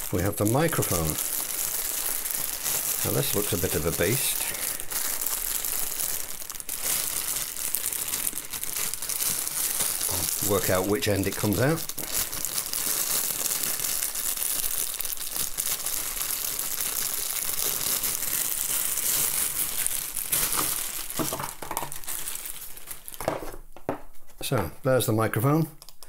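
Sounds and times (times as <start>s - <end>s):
packaging crackling: 0.0s - 23.7s.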